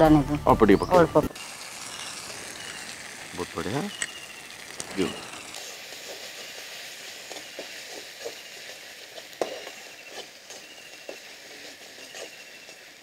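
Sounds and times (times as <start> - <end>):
onions sizzling in oil: 1.2 - 13.0.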